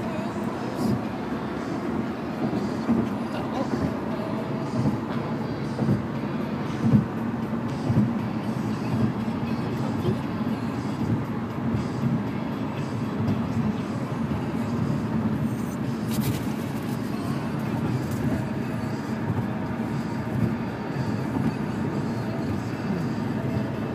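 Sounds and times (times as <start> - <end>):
car cabin road and engine rumble: 0.0 - 23.9.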